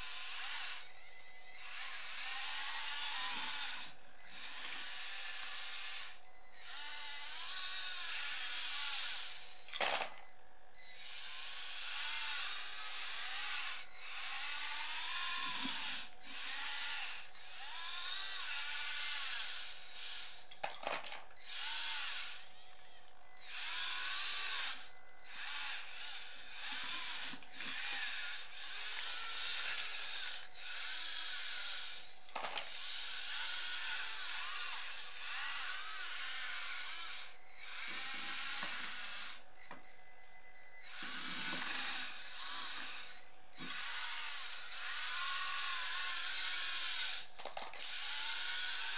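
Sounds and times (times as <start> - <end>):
toy electric motors whining: 0.0 - 48.9.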